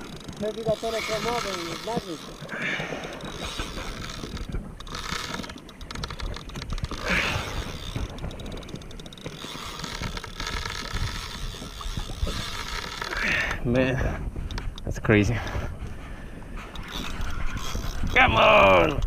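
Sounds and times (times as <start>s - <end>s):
fishing reel clicking: 0.0s - 13.6s, 16.7s - 19.0s.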